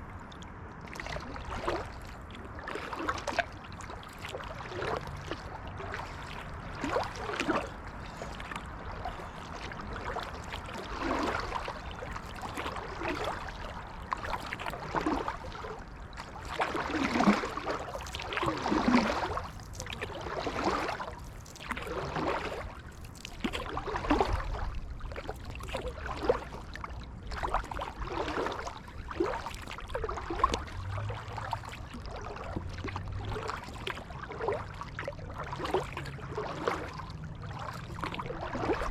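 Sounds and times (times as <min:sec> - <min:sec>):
kayak paddle splashing: 0:00.0 - 0:38.9
water trickling off paddle: 0:00.0 - 0:38.9.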